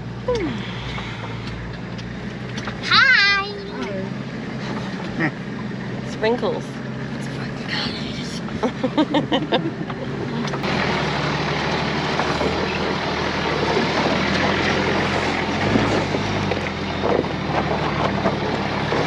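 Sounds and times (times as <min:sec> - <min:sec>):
rumble of tyres on rocky track: 0:00.0 - 0:19.0
vehicle engine running: 0:00.0 - 0:19.0.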